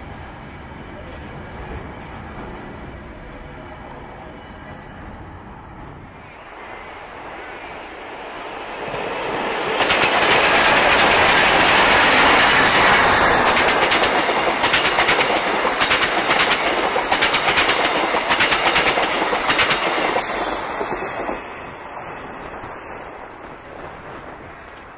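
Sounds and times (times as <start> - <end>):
train rolling noise: 0.0 - 24.9.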